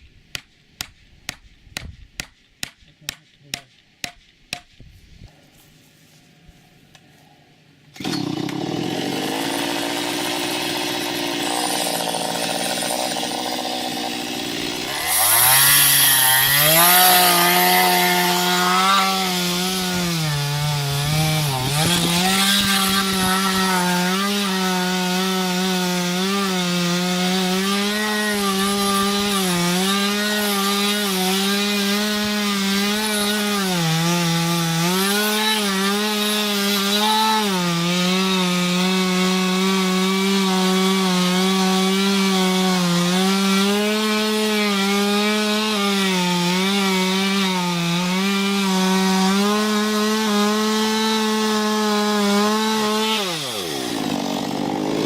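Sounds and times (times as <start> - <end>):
chainsaw cutting wood: 7.9 - 55.0.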